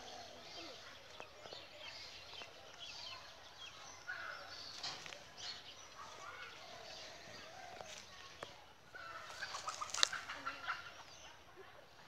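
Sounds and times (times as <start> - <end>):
birds chirping: 0.0 - 12.0
faint outdoor background noise: 0.0 - 12.0.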